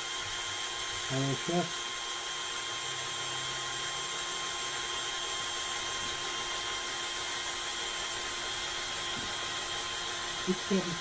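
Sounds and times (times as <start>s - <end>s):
small electric drill whining: 0.0s - 11.0s.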